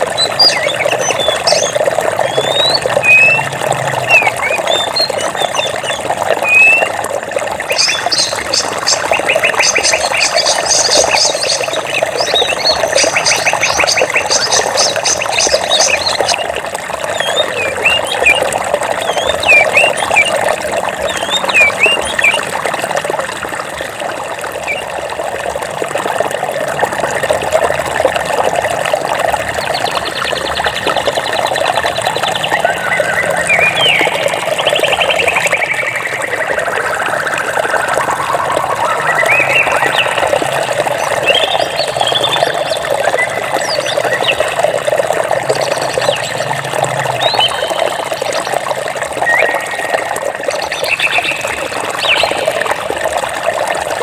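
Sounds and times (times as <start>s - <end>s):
birds chirping: 0.0s - 7.0s, 7.6s - 22.9s, 29.5s - 48.6s, 49.2s - 52.8s
flowing water: 0.0s - 54.0s.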